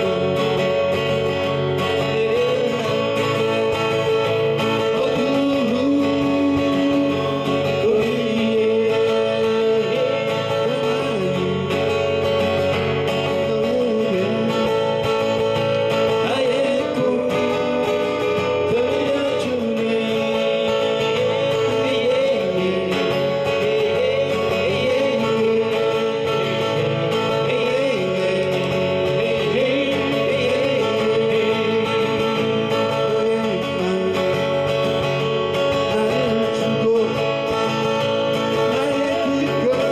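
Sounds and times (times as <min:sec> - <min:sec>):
acoustic guitars strummed: 0:00.0 - 0:39.9.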